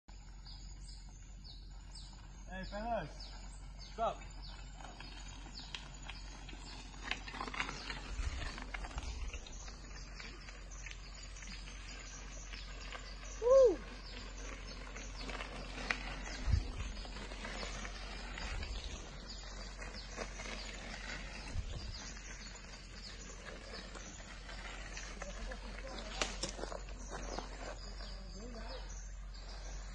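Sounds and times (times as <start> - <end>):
birds: 0.1 - 29.9
low bumps: 0.6 - 29.9.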